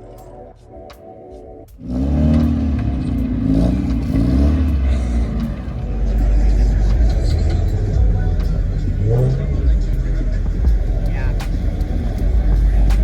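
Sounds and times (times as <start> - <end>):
car engine revving: 1.7 - 13.0.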